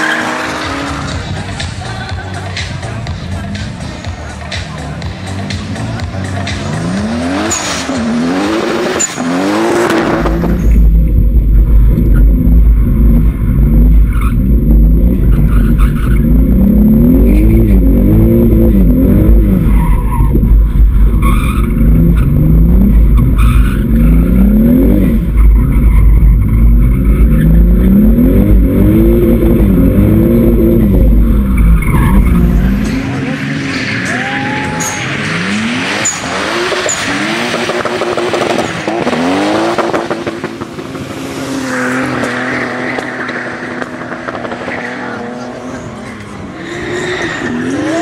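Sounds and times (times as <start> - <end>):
car engine revving: 0.0 - 48.0
tyres skidding: 0.0 - 48.0
heavy low rumble: 0.7 - 44.7.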